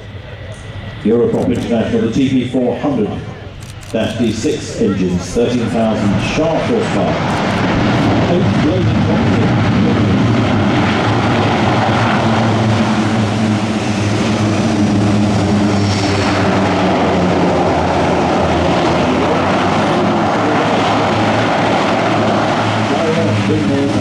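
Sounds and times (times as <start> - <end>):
turboprop engines running loud: 0.0 - 24.0.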